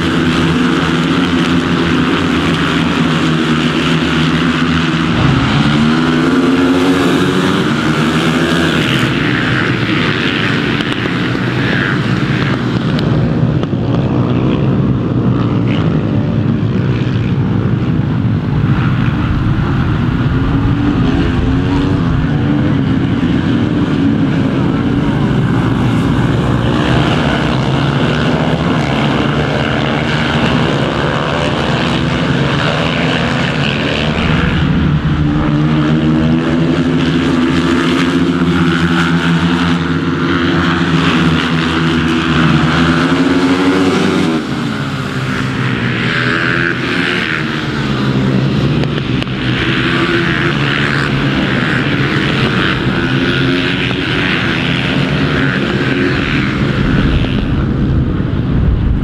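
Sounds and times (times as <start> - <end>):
motorcycles passing by: 0.0 - 59.0
racing motorcycle engines revving: 0.0 - 59.0.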